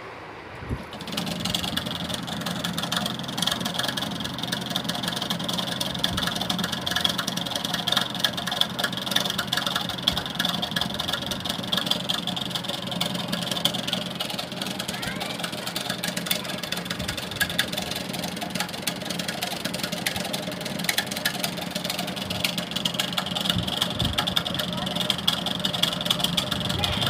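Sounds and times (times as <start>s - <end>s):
coil winding machine motor hum: 0.8s - 27.0s
fine ticking of wire winding: 0.9s - 27.0s.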